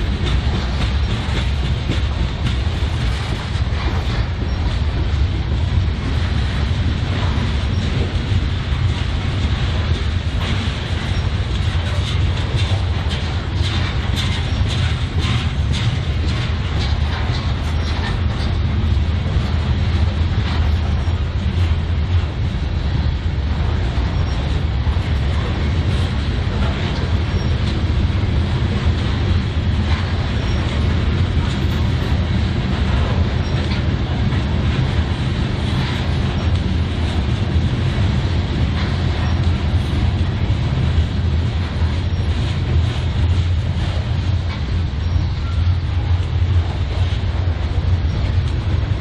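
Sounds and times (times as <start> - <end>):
railcars rumbling past: 0.0 - 49.0
wheels clicking over rail joints: 0.0 - 49.0.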